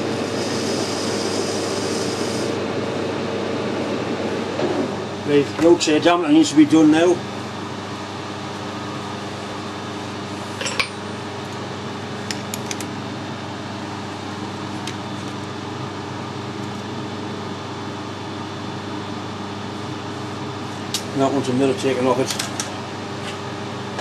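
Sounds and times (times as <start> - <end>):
shop machinery hum: 0.0 - 24.0.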